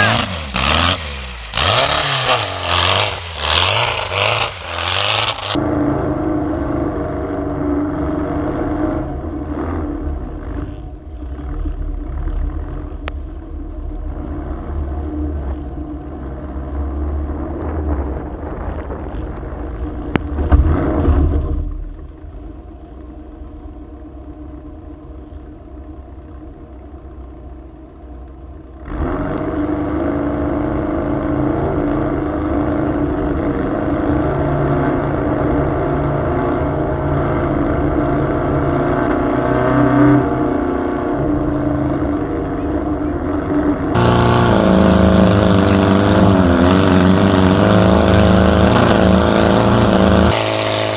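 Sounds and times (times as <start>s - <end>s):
car engine running: 0.0s - 35.6s, 41.3s - 50.9s.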